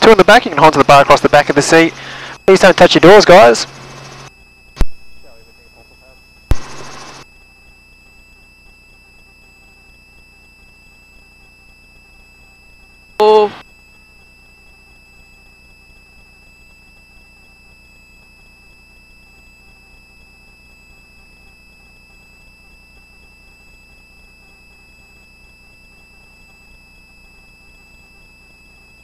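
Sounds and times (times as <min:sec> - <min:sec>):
helicopter whine and hum: 0:00.0 - 0:29.0.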